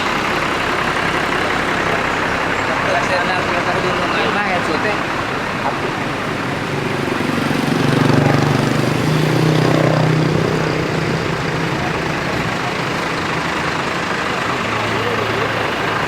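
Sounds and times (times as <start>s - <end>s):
diesel bus engine drone: 0.0s - 16.0s.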